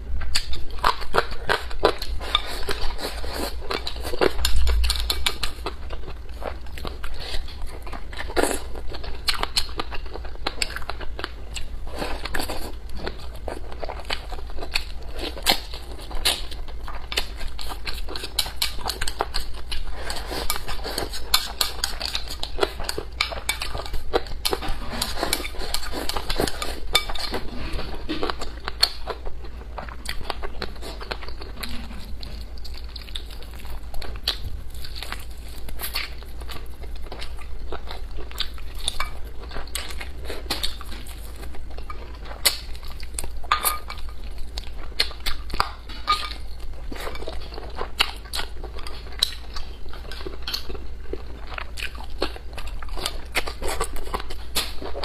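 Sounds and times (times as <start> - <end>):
close-up eating and chewing: 0.0 - 55.0.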